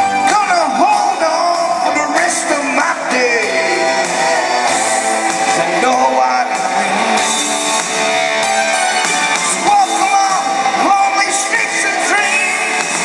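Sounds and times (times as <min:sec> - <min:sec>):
rock backing track with guitar: 0:00.0 - 0:13.0
man singing into microphone: 0:00.2 - 0:07.6, 0:09.7 - 0:12.9.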